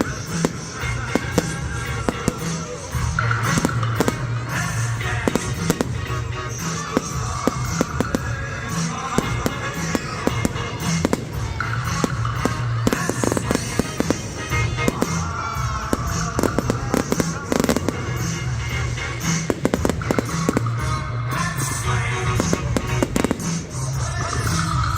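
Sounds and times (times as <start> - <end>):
fireworks cracking and banging: 0.0 - 24.9
loud music with steady beat: 0.0 - 24.9.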